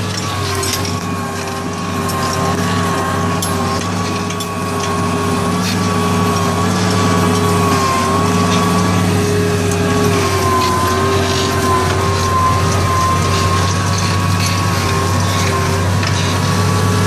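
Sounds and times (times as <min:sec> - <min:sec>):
steady high whine: 0:00.0 - 0:17.0
tractor engine running under load: 0:00.0 - 0:17.0.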